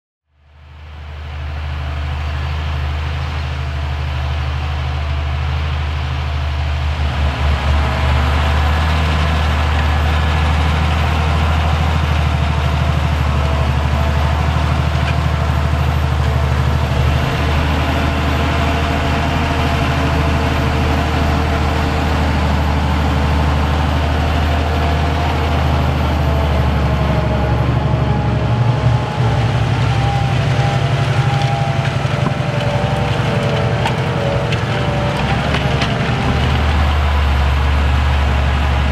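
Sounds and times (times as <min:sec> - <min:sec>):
tractor diesel engine under load: 0:00.4 - 0:38.9.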